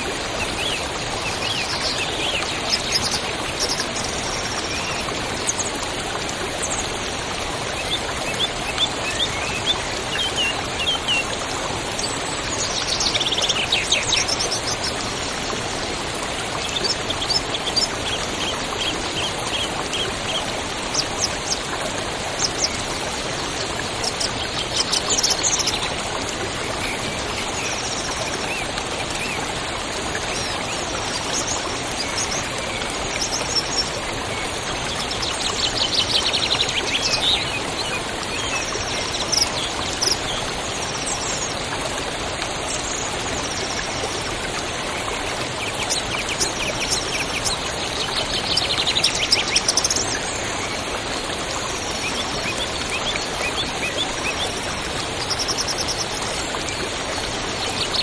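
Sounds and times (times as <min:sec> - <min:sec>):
river water running: 0:00.0 - 0:58.0.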